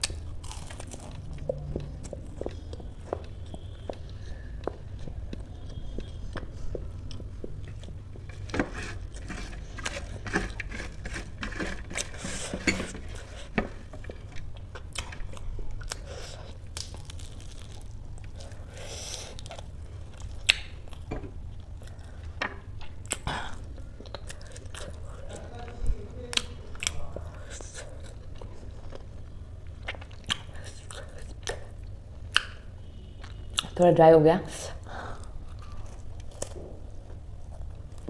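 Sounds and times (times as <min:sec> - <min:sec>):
crunchy chewing: 0:00.0 - 0:33.7, 0:35.2 - 0:38.0.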